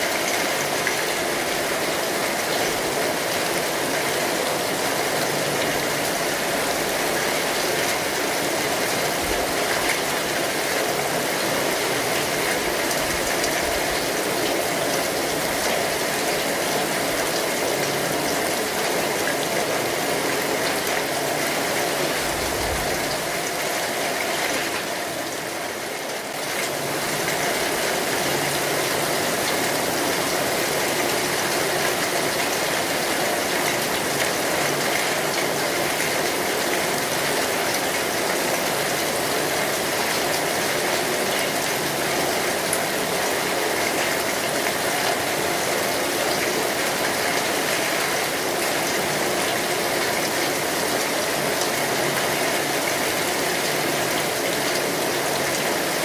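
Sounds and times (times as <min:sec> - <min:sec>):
rain pattering on an umbrella: 0:00.0 - 0:56.0.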